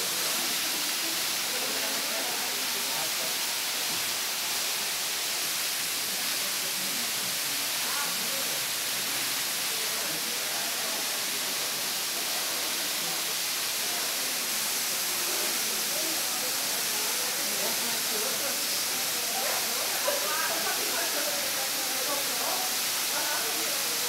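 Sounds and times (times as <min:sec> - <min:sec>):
faint voices: 0:00.0 - 0:24.0
waterfall rushing: 0:00.0 - 0:24.0.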